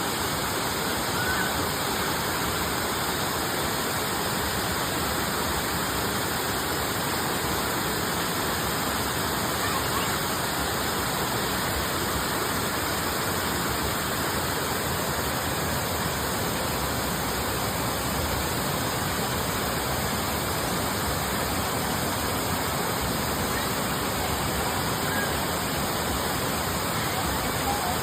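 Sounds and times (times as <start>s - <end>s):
waterfall roar: 0.0s - 28.0s.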